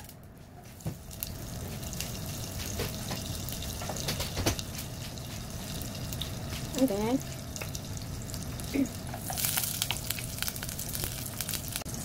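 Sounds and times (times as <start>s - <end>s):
butter sizzling in hot oil: 0.9s - 12.0s.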